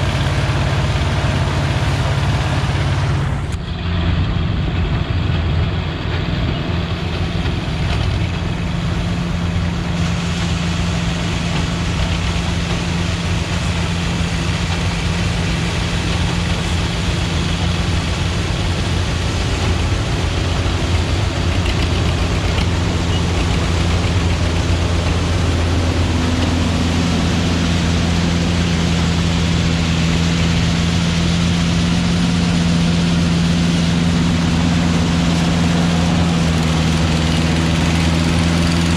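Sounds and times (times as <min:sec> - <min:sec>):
harvesting machinery engine drone: 0:00.0 - 0:38.9.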